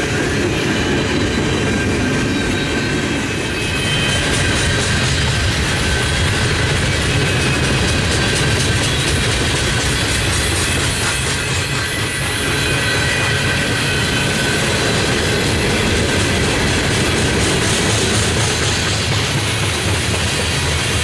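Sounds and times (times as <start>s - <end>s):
train wheels rumbling on rails: 0.0s - 21.0s
thin high squealing: 0.6s - 19.0s.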